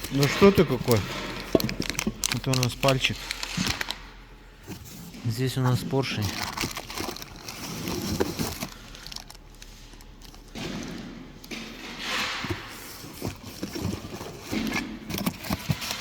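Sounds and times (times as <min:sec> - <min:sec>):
packaging rustling: 0:00.0 - 0:10.8, 0:12.0 - 0:16.0.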